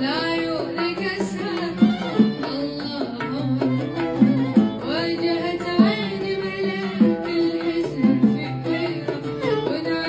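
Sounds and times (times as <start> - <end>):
boy singing: 0.0 - 10.0
hand drum strokes: 0.0 - 10.0
oud and violin melody: 0.0 - 10.0.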